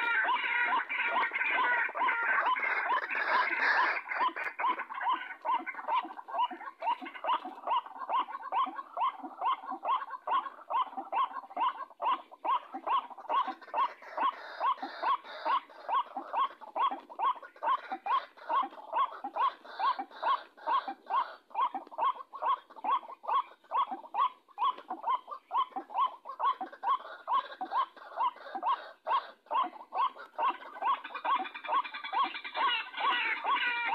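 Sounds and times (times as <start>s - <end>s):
waterhen calling: 0.0s - 33.9s.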